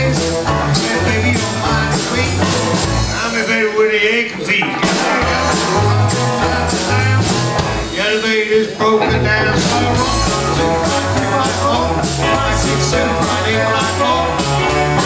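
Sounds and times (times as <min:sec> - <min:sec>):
rock and roll band playing: 0:00.0 - 0:15.0.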